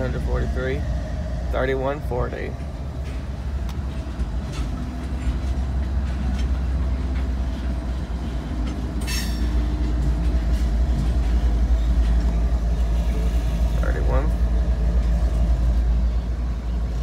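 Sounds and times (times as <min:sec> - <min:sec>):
locomotive engine rumble: 0:00.0 - 0:17.0
wheels clattering on rail: 0:00.0 - 0:17.0.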